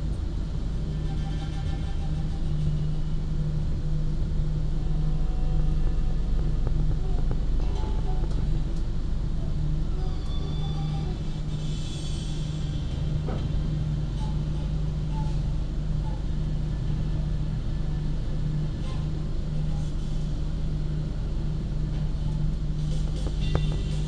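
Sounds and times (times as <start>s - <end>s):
train rumbling inside coach: 0.0s - 24.0s.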